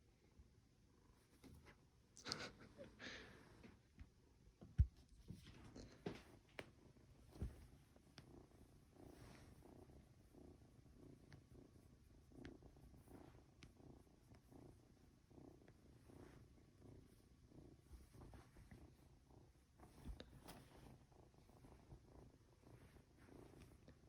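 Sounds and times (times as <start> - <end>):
kitten purring: 0.8 - 24.0.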